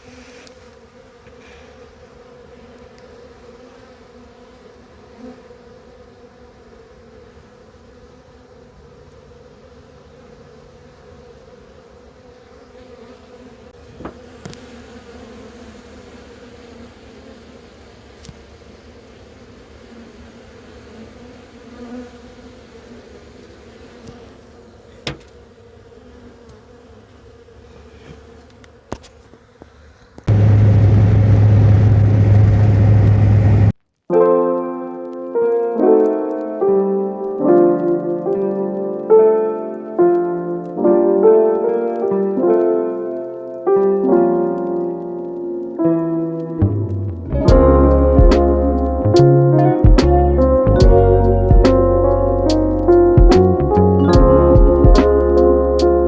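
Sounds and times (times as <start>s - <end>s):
honeybees buzzing: 0.0s - 33.8s, 35.4s - 56.0s.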